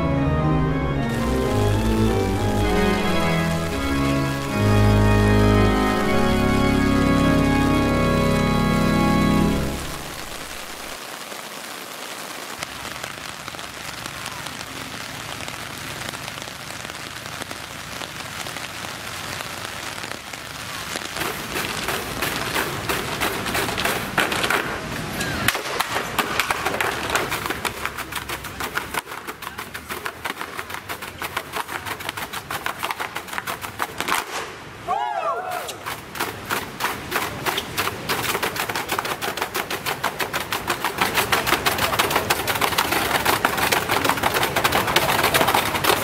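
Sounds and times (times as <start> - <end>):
steady rain falling: 0.5 - 46.0.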